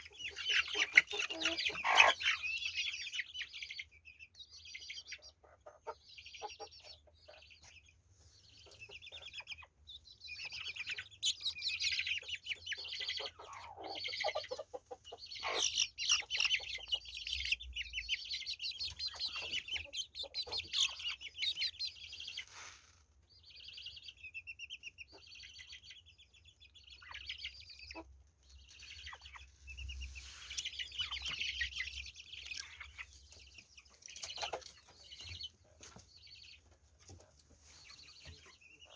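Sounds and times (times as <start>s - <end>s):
chickens clucking and chirping: 0.0s - 38.9s.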